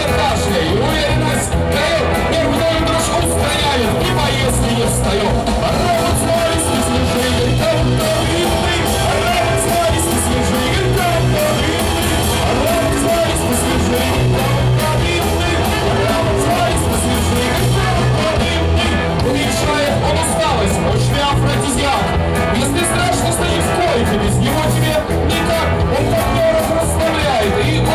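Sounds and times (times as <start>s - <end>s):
live rock band playing: 0.0s - 27.9s
person singing: 0.0s - 27.9s.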